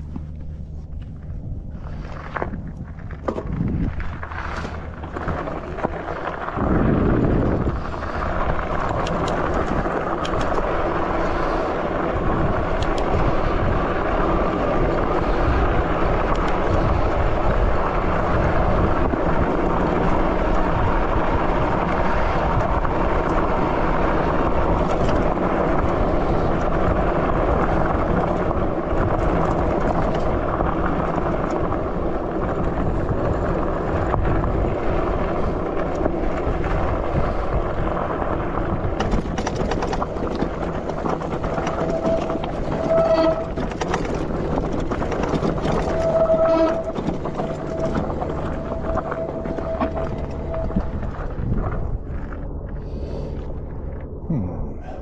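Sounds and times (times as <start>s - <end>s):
tyres rolling over gravel: 0.0s - 54.2s
low rumble: 0.0s - 55.0s
wind rumble on microphone: 0.0s - 55.0s.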